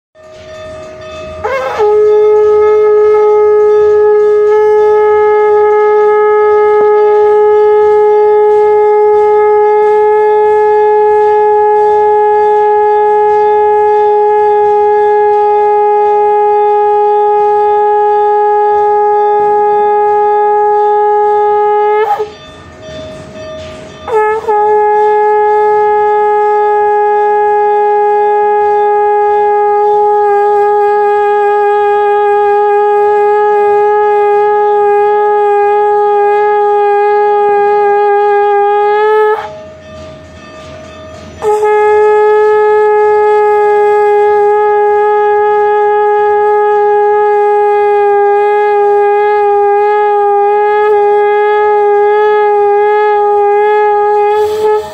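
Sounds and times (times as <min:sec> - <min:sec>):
conch shell blasts: 0:00.2 - 0:54.9.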